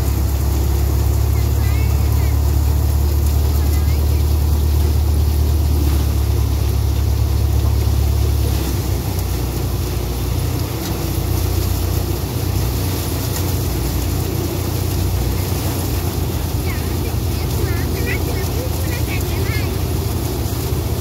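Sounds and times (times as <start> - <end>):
thresher blower rushing hiss: 0.0 - 21.0
tractor engine running under load: 0.0 - 21.0.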